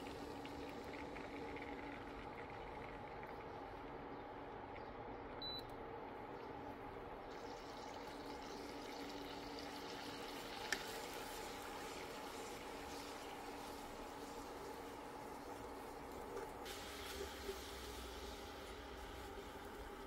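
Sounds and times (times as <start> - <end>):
water bubbling in a pot: 0.0 - 5.1, 6.9 - 20.0
faint kitchen hum: 0.0 - 20.0.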